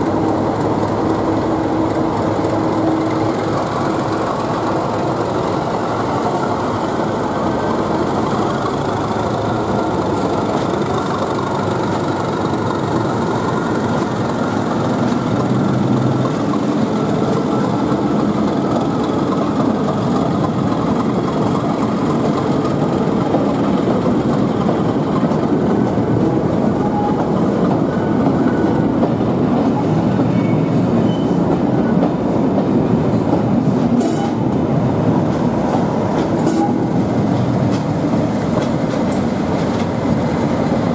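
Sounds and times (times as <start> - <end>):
diesel locomotive engine working: 0.0 - 40.9
train wheels clattering over rail joints: 0.0 - 40.9.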